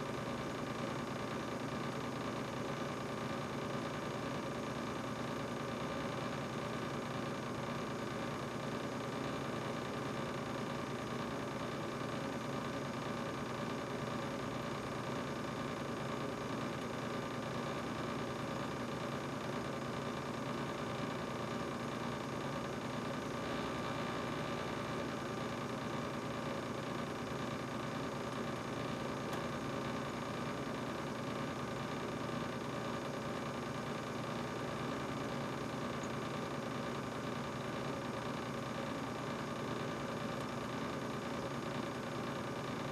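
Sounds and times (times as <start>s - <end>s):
refrigerator humming: 0.0s - 42.8s.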